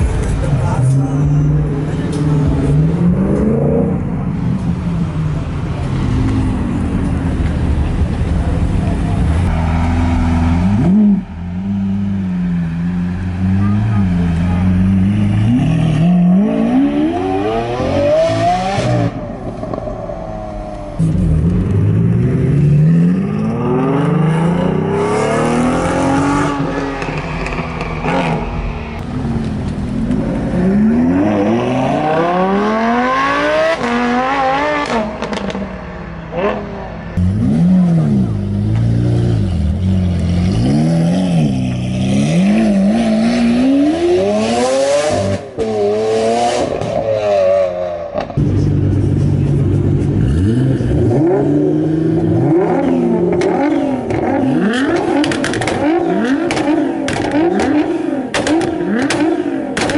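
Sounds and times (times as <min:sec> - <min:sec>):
sports cars accelerating hard: 0:00.6 - 0:59.9.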